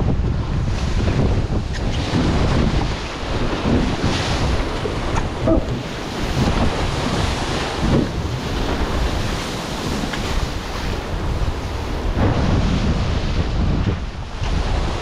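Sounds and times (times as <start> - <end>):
water rushing along hulls: 0.0 - 15.0
wind buffeting microphone: 0.0 - 15.0.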